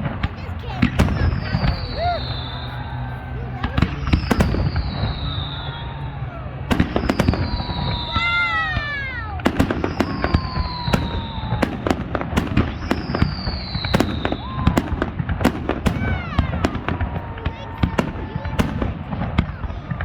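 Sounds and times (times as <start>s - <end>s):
fireworks bangs and crackling: 0.0s - 20.0s
falling firework whistle: 1.0s - 19.5s.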